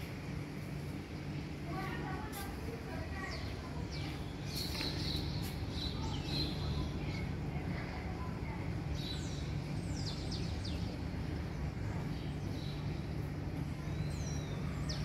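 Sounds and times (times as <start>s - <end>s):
low outdoor rumble: 0.0s - 15.0s
small birds chirping: 0.6s - 15.0s.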